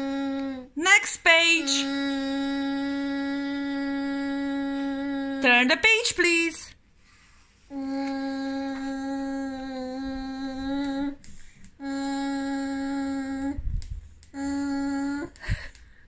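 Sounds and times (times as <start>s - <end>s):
boy humming: 0.0s - 0.8s, 1.6s - 5.5s, 7.7s - 16.0s.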